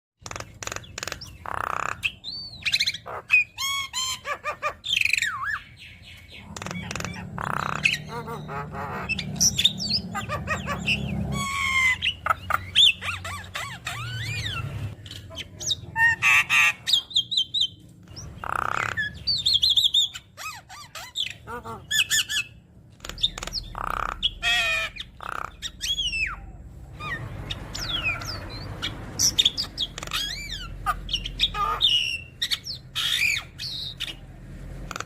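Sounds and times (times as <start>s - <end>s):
myna bird singing: 0.2s - 35.0s.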